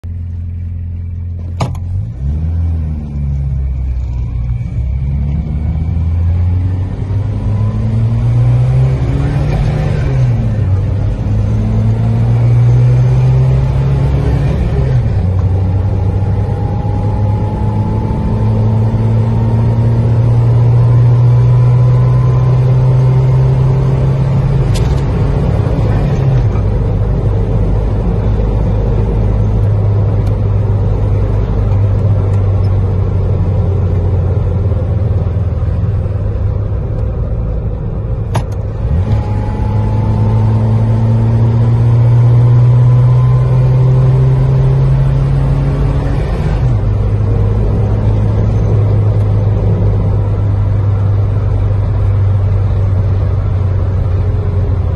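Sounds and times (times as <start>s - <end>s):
road noise: 0.0s - 54.9s
truck engine under throttle: 0.2s - 54.9s.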